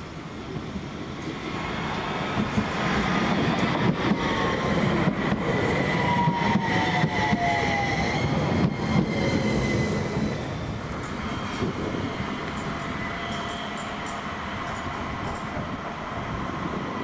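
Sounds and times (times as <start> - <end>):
tram wheels rumbling: 0.0 - 17.0.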